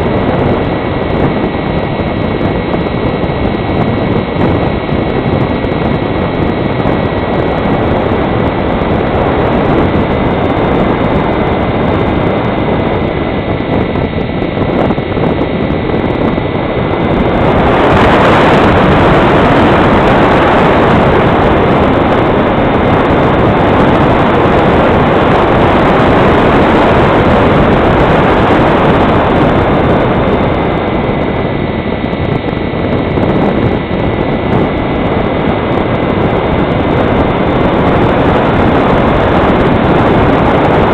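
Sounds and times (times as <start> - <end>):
electric motor whine: 0.0 - 40.9
rush of air over airframe: 0.0 - 40.9.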